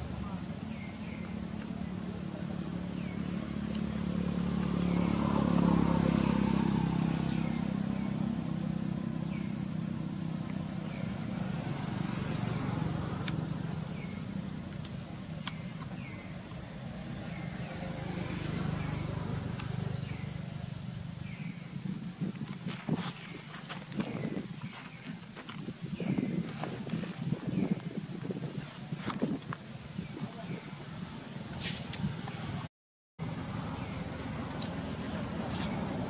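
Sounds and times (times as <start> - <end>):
vehicle engine humming: 0.0 - 26.3, 31.2 - 36.0.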